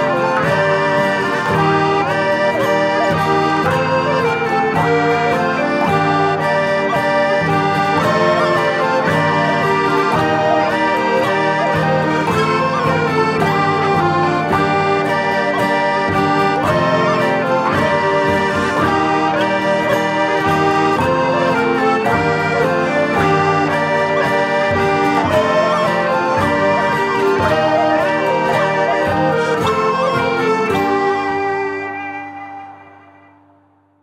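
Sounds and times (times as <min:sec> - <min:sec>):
folk metal music: 0:00.0 - 0:34.0.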